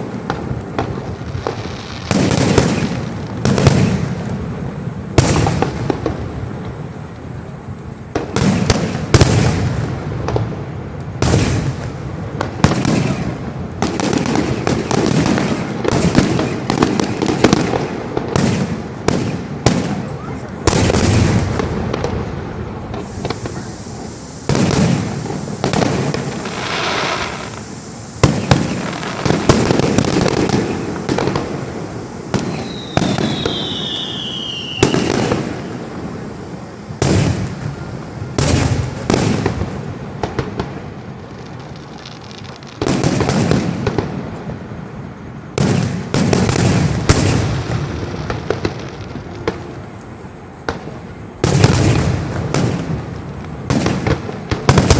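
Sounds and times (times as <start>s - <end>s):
falling firework whistle: 0.0s - 4.4s, 8.1s - 44.2s, 45.5s - 54.9s
fireworks bursts with echo: 0.0s - 54.9s.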